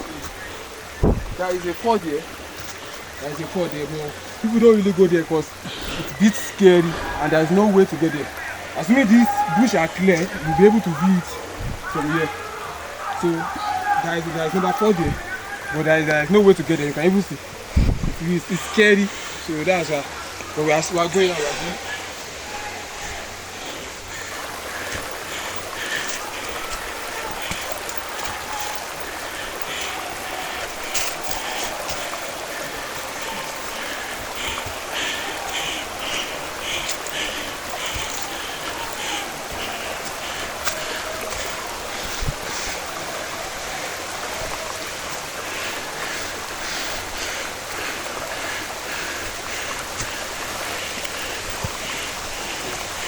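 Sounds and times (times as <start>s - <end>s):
water rushing: 0.0s - 53.0s.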